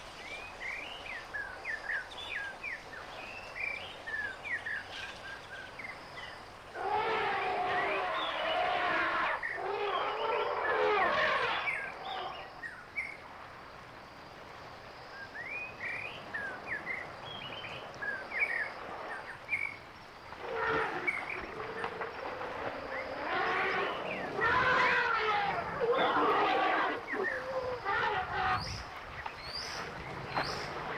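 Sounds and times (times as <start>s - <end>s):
steady background hiss: 0.0s - 30.9s.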